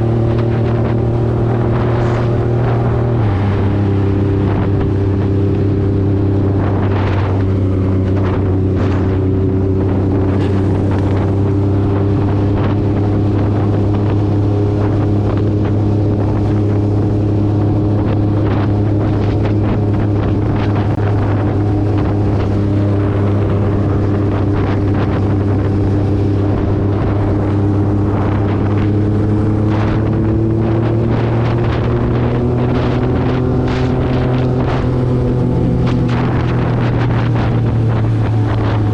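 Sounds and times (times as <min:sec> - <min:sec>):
motorcycle engine cruising: 0:00.0 - 0:38.9
wind buffeting microphone: 0:00.0 - 0:38.9.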